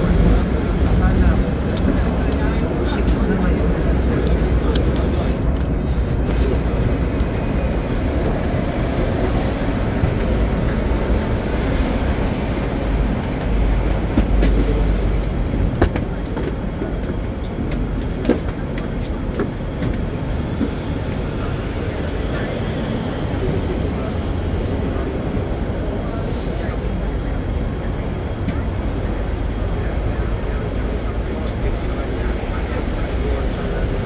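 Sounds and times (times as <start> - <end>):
tram rumbling on rails: 0.0 - 34.0.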